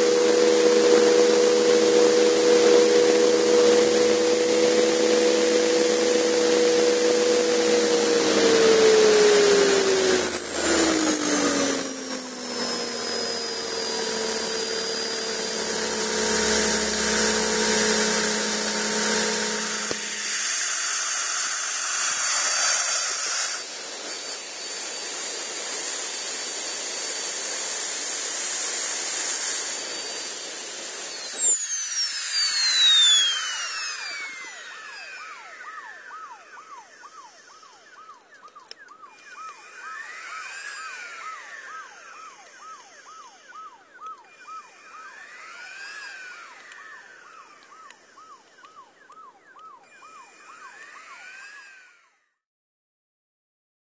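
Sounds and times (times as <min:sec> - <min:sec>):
high thin whine: 0:00.0 - 0:49.2, 0:49.8 - 0:52.0
turbine engine winding down: 0:00.0 - 0:52.1.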